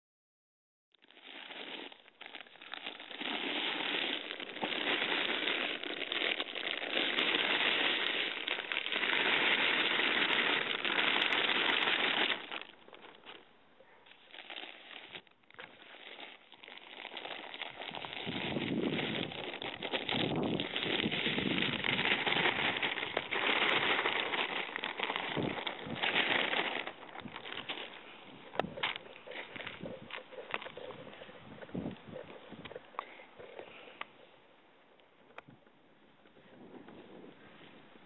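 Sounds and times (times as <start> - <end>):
soil pouring: 1.0 - 33.9
plastic bag crinkling: 1.0 - 34.0.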